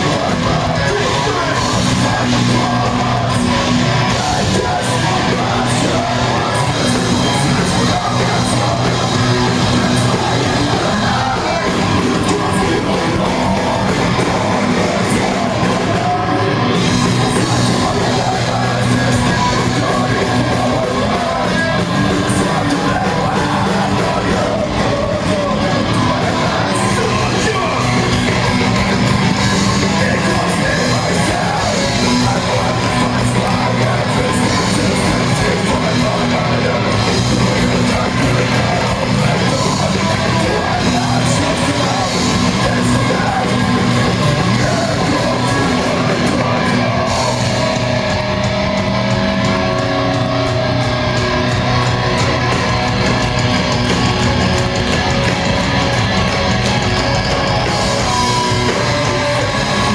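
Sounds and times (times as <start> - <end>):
metalcore band playing: 0.0 - 59.9
vocalist singing and yelling: 0.0 - 59.9.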